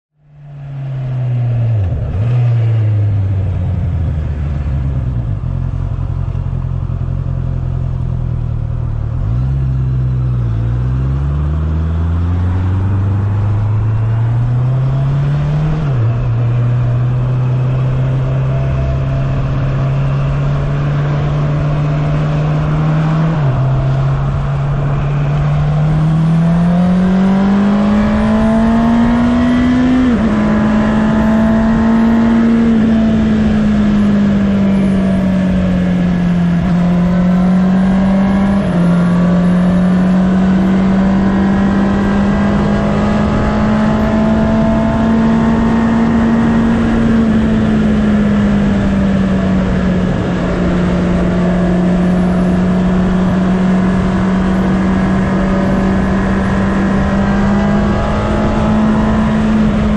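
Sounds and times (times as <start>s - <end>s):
motorcycle engine while riding: 0.2s - 59.9s.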